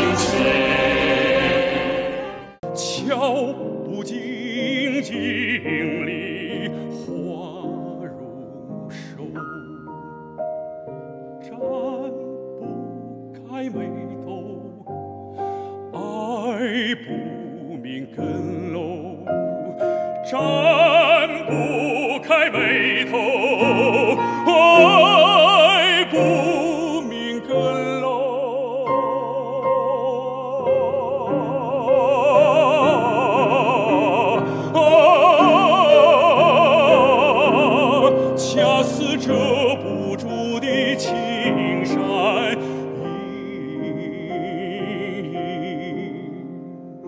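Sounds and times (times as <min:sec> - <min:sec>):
baritone singing: 0:00.0 - 0:10.0, 0:11.4 - 0:12.8, 0:13.4 - 0:15.0, 0:15.8 - 0:47.0
piano accompaniment: 0:00.0 - 0:47.0.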